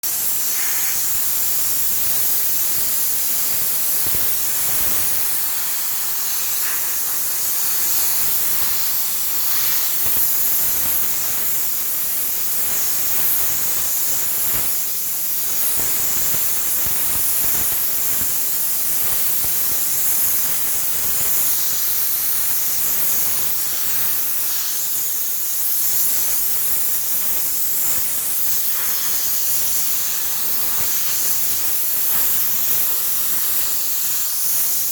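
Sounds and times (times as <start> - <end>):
steam cleaner hissing: 0.0 - 34.9.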